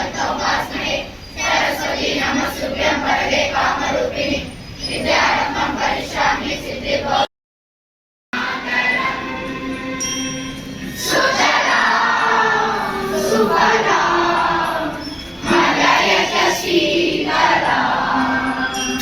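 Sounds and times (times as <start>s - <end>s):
children singing in chorus: 0.0s - 7.3s, 8.4s - 19.0s.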